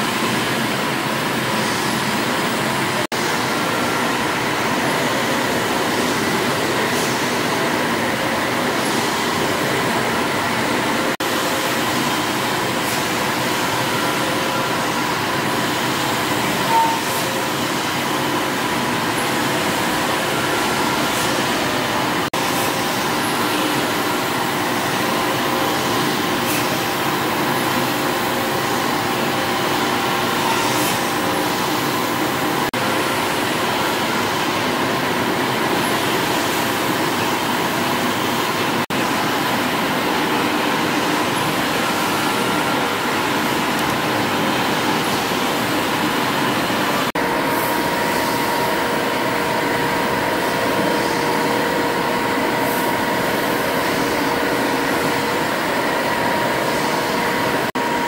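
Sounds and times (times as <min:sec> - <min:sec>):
steam engines clattering and humming: 0:00.0 - 0:58.0.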